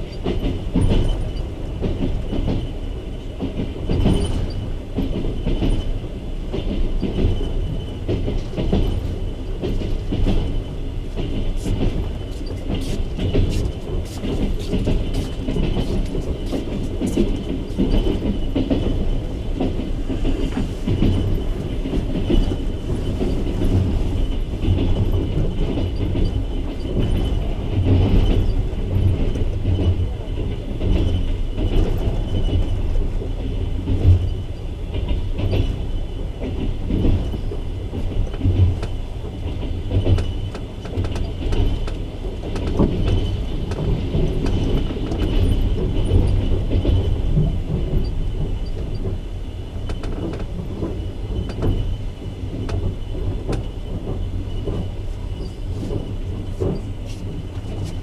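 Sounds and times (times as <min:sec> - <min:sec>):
train wheels rumbling on track: 0:00.0 - 0:58.0
wheels clicking over rail joints: 0:00.0 - 0:58.0.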